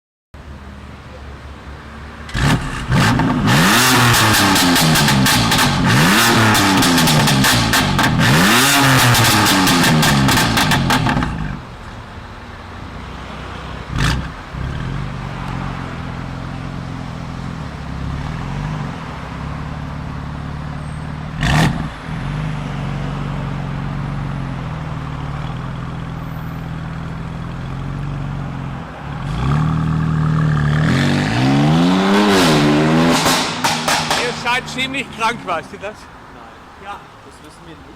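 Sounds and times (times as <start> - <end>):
car engine revving and idling: 2.2 - 11.8, 13.8 - 36.1.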